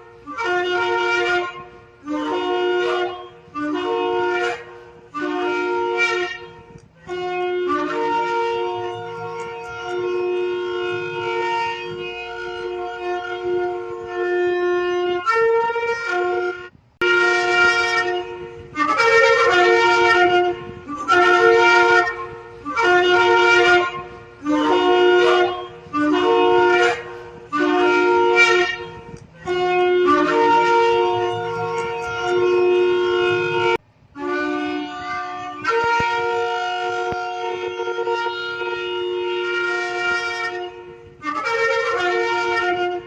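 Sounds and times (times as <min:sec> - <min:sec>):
ram's-horn trumpet blasts: 0:00.0 - 0:43.0.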